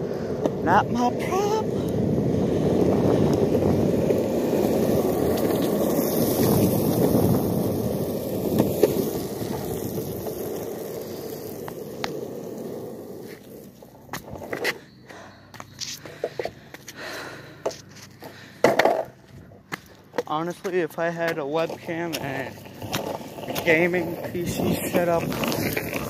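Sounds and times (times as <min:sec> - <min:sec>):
skateboard wheels rolling on pavement: 0:00.0 - 0:26.0.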